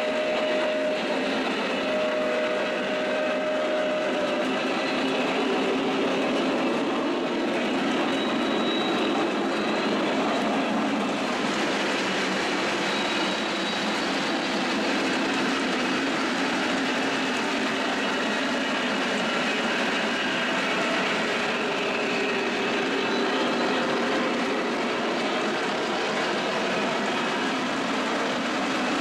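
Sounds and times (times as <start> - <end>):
faint high squeals: 0.0 - 10.9, 12.6 - 27.5
model train wheels rumbling on rails: 0.0 - 29.0.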